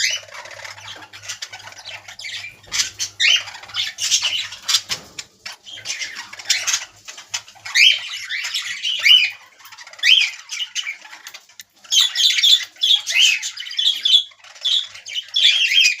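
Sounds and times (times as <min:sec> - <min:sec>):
budgerigars squawking and chattering: 0:00.0 - 0:16.0.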